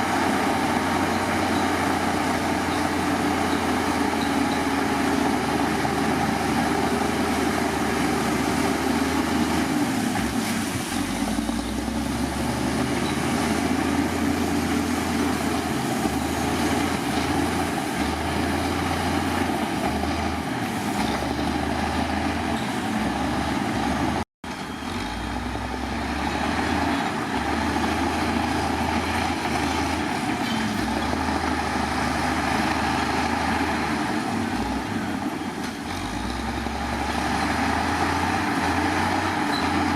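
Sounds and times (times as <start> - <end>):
heavy diesel machinery engines: 0.0 - 39.9.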